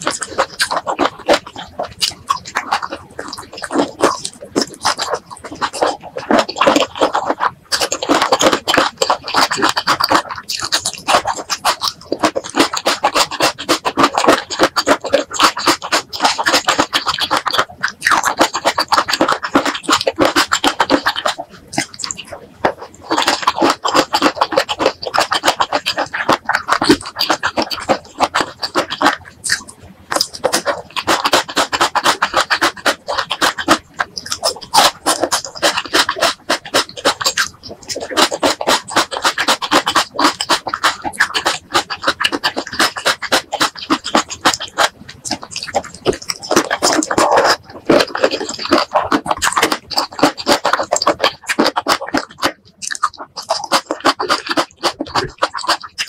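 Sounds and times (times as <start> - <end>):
chewing clicks and crackles: 0.0 - 56.0
wet chewing mouth sounds: 0.0 - 56.0.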